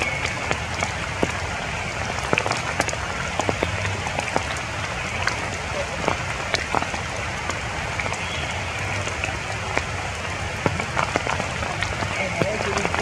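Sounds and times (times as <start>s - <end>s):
rain on leaves: 0.0s - 13.0s.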